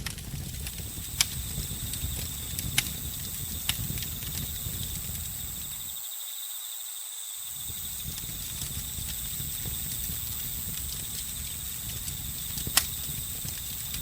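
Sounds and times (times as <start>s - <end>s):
campfire crackling: 0.0s - 6.0s, 7.4s - 14.0s
crickets and insects chirping: 0.0s - 14.0s.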